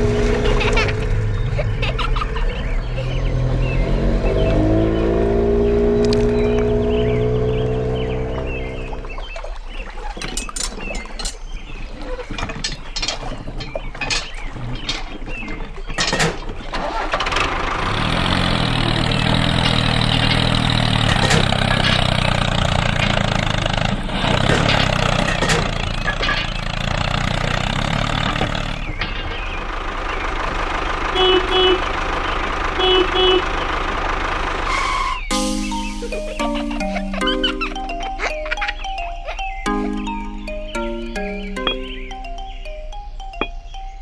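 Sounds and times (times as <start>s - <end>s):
small bulldozer engine running: 0.0s - 9.1s, 16.0s - 44.0s.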